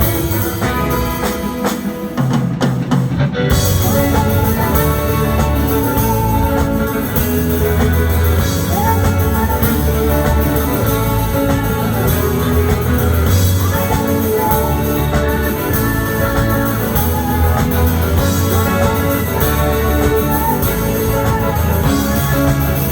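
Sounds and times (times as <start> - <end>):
rock music with guitars: 0.0 - 22.9.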